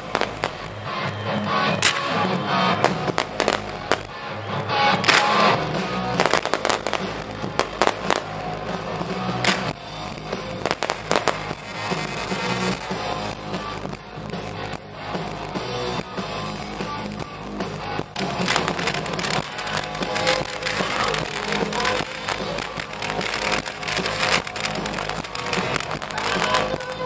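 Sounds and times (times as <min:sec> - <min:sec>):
background music: 0:00.0 - 0:27.0
fireworks bangs and crackling: 0:00.0 - 0:27.0.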